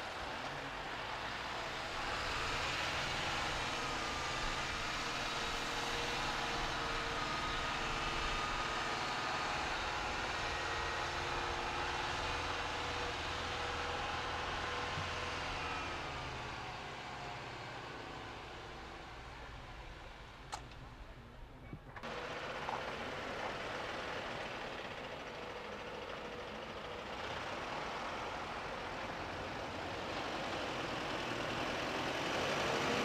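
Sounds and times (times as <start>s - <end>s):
diesel truck engine pulling under load: 0.0s - 21.0s, 21.8s - 33.0s.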